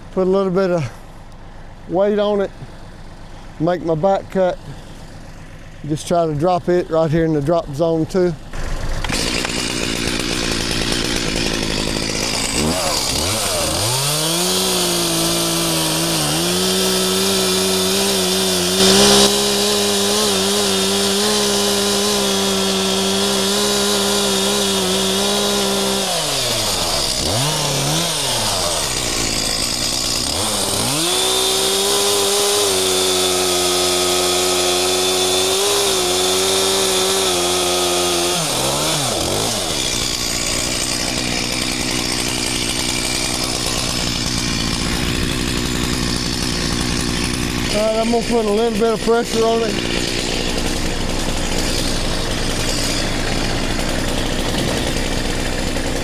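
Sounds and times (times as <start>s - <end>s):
chainsaw cutting wood: 0.0s - 56.0s
chainsaw idling: 0.0s - 56.0s.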